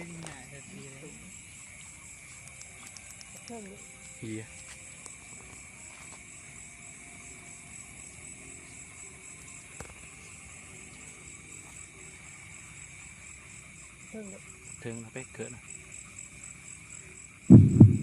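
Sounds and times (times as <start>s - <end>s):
cricket continuous trill: 0.0s - 18.0s
rapidly pulsing insect chirp: 0.0s - 18.0s.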